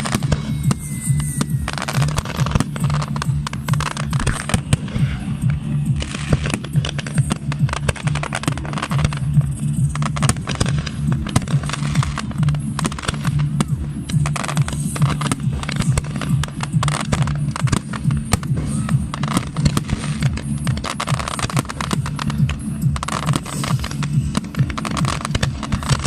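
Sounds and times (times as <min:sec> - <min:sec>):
fireworks crackling and popping: 0:00.0 - 0:26.0
steady low tone: 0:00.0 - 0:26.0.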